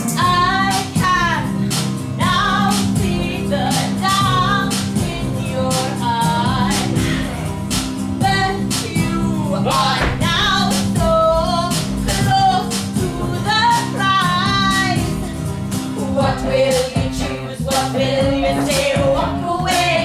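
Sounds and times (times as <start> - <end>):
instrumental accompaniment with beat: 0.0 - 20.0
women singing show tune: 2.2 - 7.5, 8.2 - 15.3, 16.0 - 20.0.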